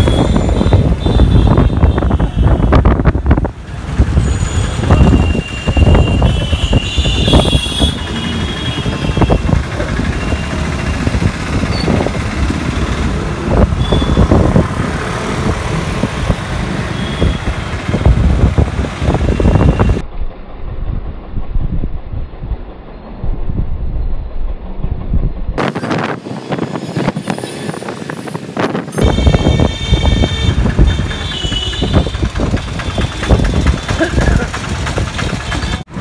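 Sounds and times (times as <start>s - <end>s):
busy street traffic: 0.0s - 36.0s.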